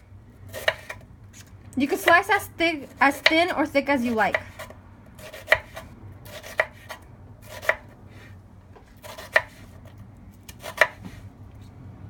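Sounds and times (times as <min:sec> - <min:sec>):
knife slicing an onion: 0:00.5 - 0:08.3, 0:08.9 - 0:11.3.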